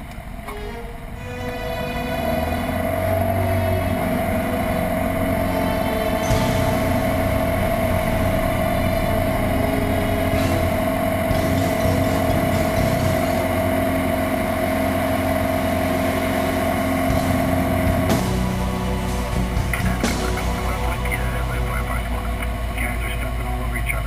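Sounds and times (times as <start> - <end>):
light aircraft engine and propeller drone: 1.5 - 24.0.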